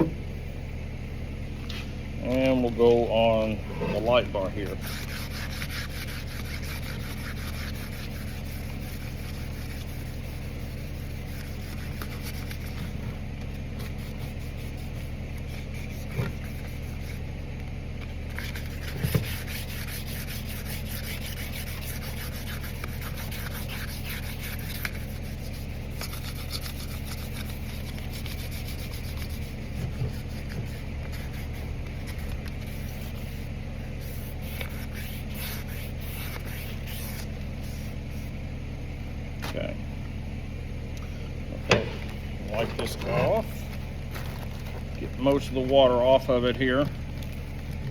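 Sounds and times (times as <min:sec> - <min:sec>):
steady low hum: 0:00.0 - 0:47.9
wet sandpaper rubbing: 0:03.2 - 0:17.3, 0:18.2 - 0:38.4, 0:42.5 - 0:47.8.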